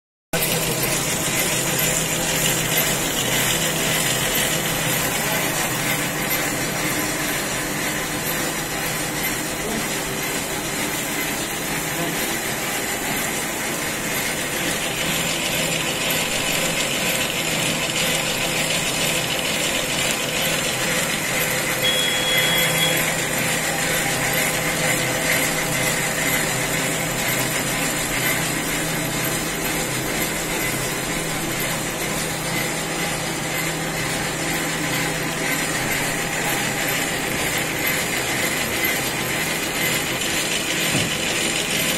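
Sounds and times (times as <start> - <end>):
printing machine whirring: 0.4 - 41.9.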